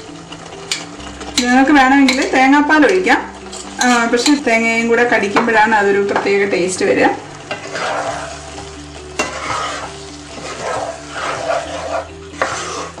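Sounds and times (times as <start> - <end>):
syrup sizzling in a pan: 0.0 - 13.0
spatula stirring in a pan: 0.2 - 4.7, 5.4 - 13.0.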